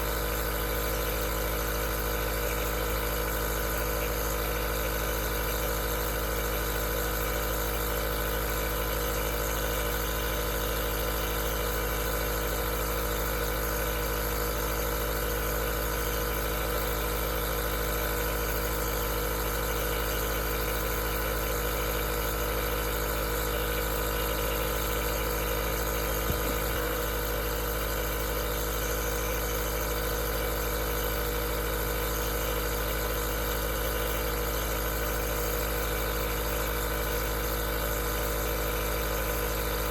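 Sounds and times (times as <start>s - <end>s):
nebulizer motor hum: 0.0s - 39.9s.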